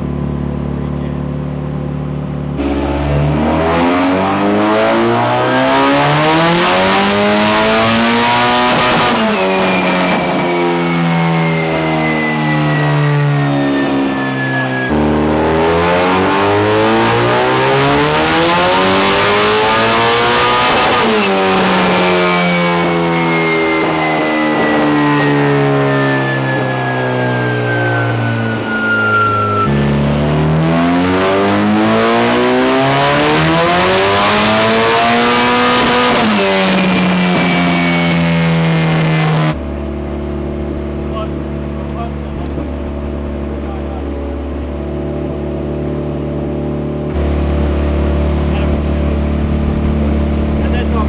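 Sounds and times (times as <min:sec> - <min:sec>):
turbocharged engine revving: 0:02.5 - 0:46.1, 0:47.0 - 0:51.0
high whine winding down: 0:02.6 - 0:45.6, 0:47.1 - 0:51.0.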